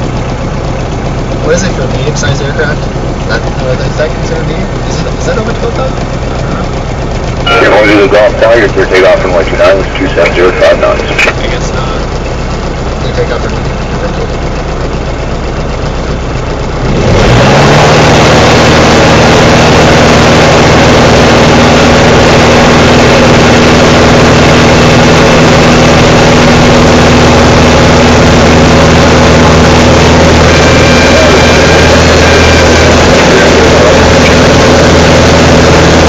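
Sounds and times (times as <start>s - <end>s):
propeller aircraft engine revving: 0.0s - 36.0s.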